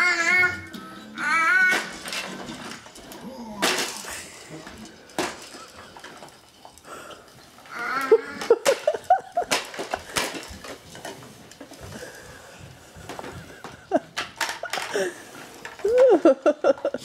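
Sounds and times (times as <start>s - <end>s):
hard toys clattering: 0.0s - 17.0s.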